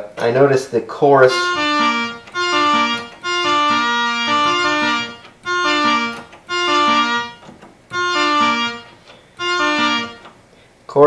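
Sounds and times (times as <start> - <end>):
string synthesizer held notes: 1.3 - 10.3.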